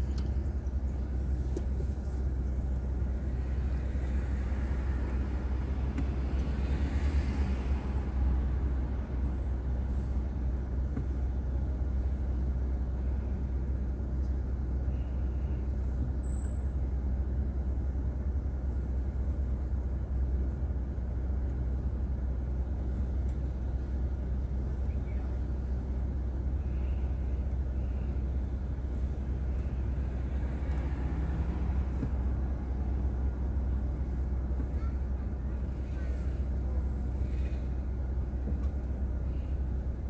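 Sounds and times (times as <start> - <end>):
car engine and tyre rumble: 0.0 - 40.0.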